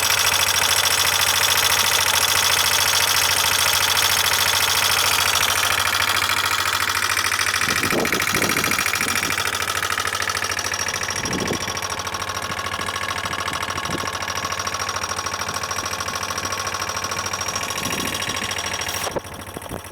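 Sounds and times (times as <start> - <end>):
metallic ticking rattle: 0.0 - 19.9
scooter engine running: 0.0 - 19.9.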